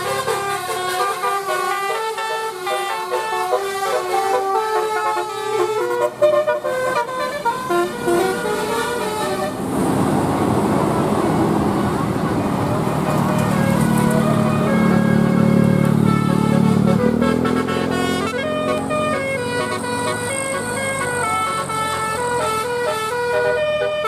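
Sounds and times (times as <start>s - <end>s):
musical bus air horn: 0.0s - 9.7s, 10.3s - 24.0s
engine and road noise: 0.0s - 24.0s.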